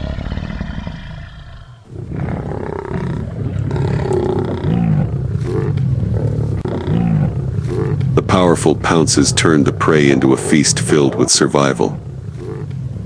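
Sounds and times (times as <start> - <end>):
lions growling: 0.0 - 13.0.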